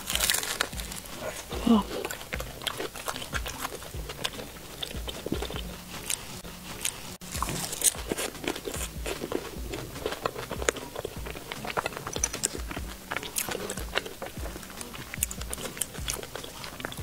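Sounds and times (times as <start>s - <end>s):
crunchy pastry biting and chewing: 0.0s - 17.0s.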